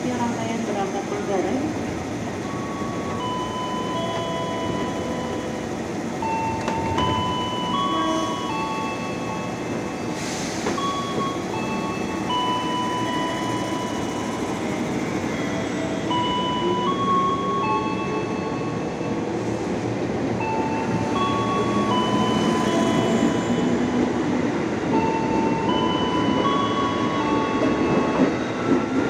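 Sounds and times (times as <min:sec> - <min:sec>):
high steady tones: 0:00.0 - 0:19.2, 0:20.4 - 0:26.7
train wheels rumbling on rail: 0:00.0 - 0:29.0.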